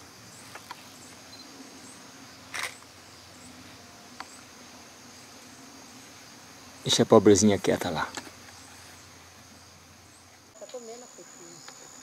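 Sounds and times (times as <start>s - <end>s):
faint high hiss: 0.0s - 12.0s.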